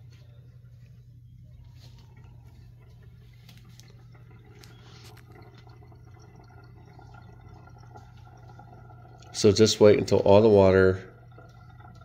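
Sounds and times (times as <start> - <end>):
low hum: 0.0 - 12.0
water dripping into tank: 0.1 - 12.0.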